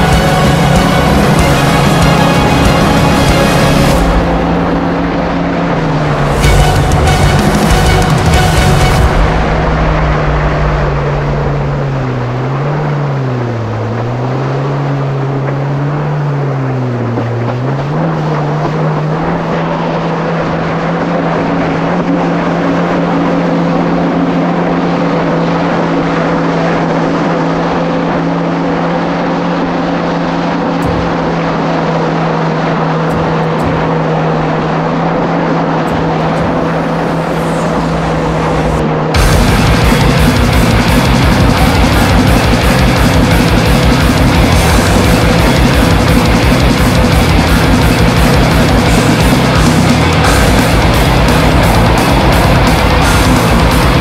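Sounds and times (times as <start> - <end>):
jet ski engine running: 0.0 - 54.0
water rushing noise: 0.0 - 54.0.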